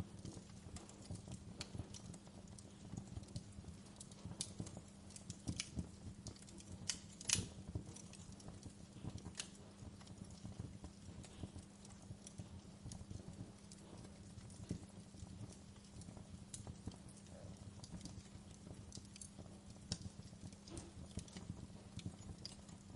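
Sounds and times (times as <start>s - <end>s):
campfire crackling: 0.0s - 22.9s
faint steady hum: 0.0s - 22.9s.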